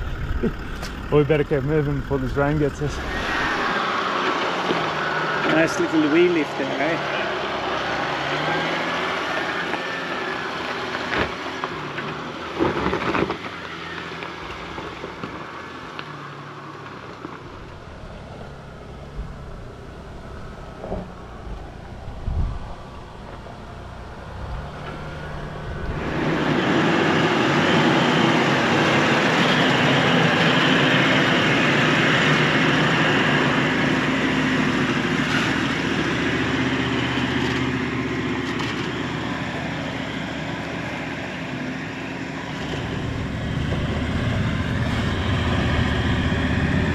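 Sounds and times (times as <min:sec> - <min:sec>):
off-road vehicle engine climbing: 0:00.0 - 0:46.9
tyres on loose dirt: 0:00.0 - 0:46.9.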